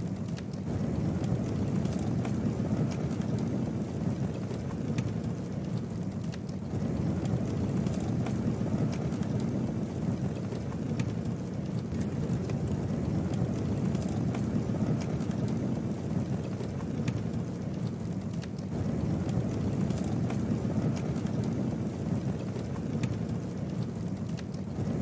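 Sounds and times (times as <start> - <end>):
campfire burning: 0.0 - 25.0
fire crackling and popping: 0.0 - 25.0.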